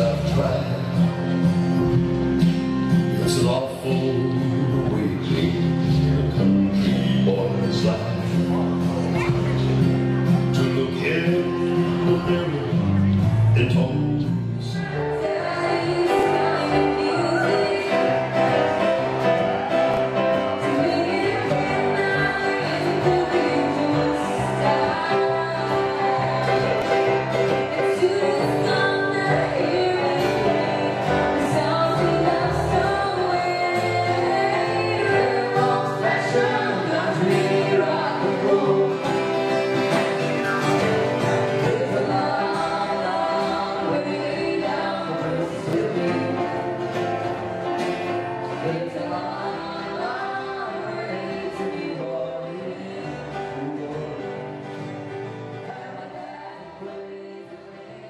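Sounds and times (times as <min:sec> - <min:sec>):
acoustic guitar: 0:00.0 - 0:58.0
keyboard: 0:00.0 - 0:58.0
person singing: 0:03.1 - 0:54.7.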